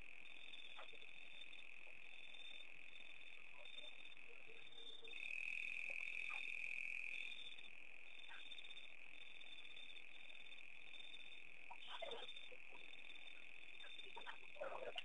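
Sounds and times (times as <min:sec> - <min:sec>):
frogs or insects trilling: 0:00.0 - 0:15.0.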